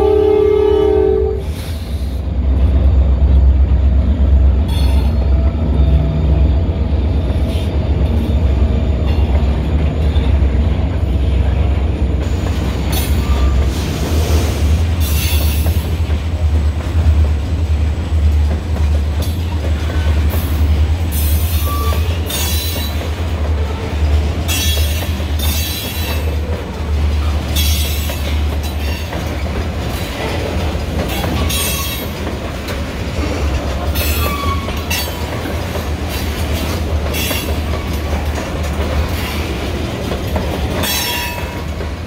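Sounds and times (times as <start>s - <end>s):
freight train rolling past: 0.0s - 42.0s
wheels rumbling on rail: 0.0s - 42.0s.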